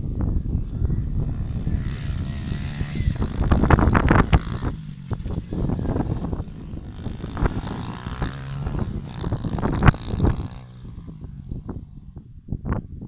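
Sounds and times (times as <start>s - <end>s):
small motorbike engine running: 0.1s - 12.2s.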